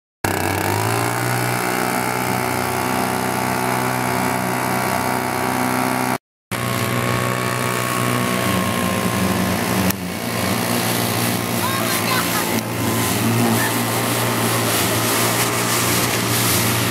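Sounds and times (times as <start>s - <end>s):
leaf blower running: 0.3s - 16.9s.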